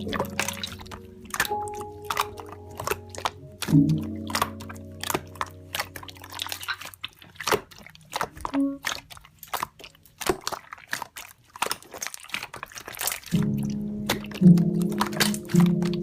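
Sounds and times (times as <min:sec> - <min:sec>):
sharp clicks and crunches: 0:00.0 - 0:16.0.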